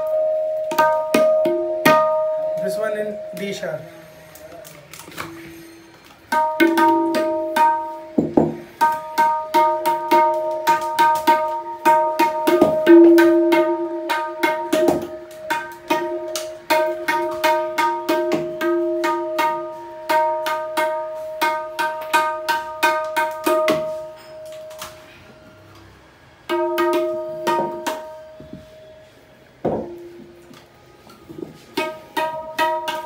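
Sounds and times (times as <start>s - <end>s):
tabla strokes ringing: 0.0s - 3.9s, 5.2s - 25.7s, 26.4s - 33.0s.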